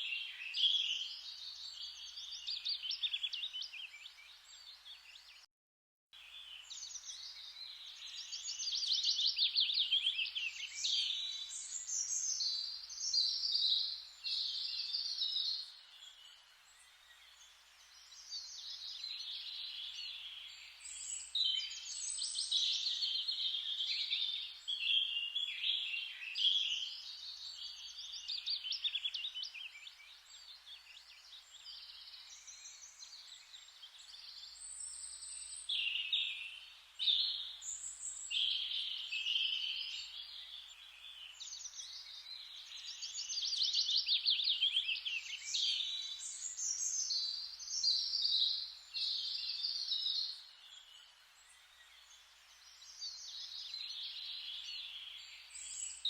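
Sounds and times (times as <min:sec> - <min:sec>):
songbirds singing and chirping: 0:00.0 - 0:05.5, 0:06.2 - 0:56.0
faint steady hiss: 0:06.2 - 0:56.0.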